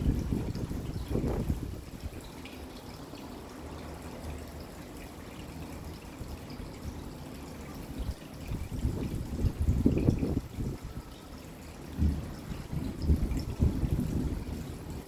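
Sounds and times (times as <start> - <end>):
steady rain: 0.0 - 15.0
water drips ticking: 0.0 - 15.0
water pouring and trickling: 0.0 - 15.0.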